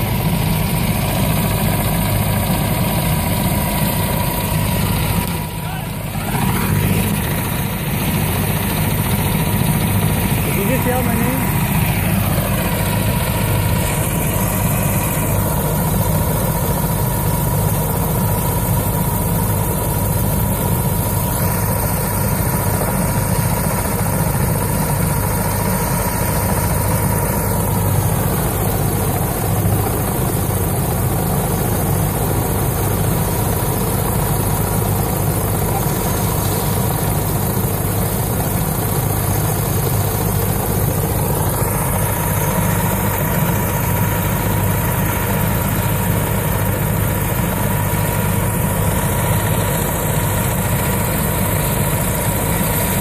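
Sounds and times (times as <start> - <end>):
helicopter engine and rotor drone: 0.0 - 53.0
helicopter high whine: 0.0 - 53.0.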